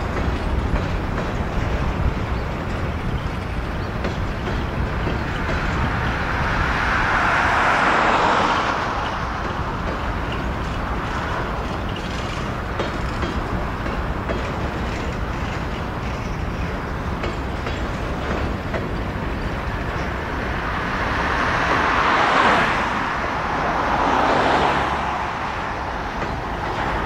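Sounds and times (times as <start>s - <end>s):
freight train rolling past: 0.0s - 27.0s
road vehicle tyre noise: 0.0s - 27.0s.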